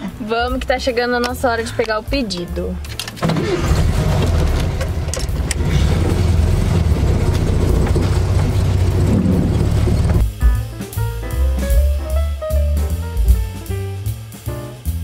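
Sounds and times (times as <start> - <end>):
car engine low drone: 0.0 - 13.8.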